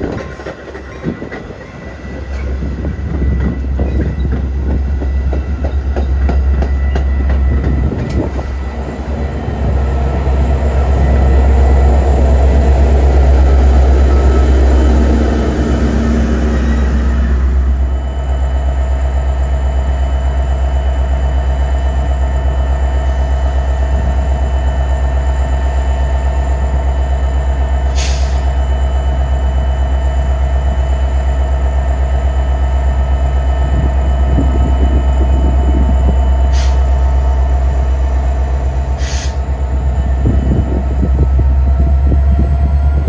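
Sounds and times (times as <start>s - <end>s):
diesel locomotive engine: 0.0s - 43.0s.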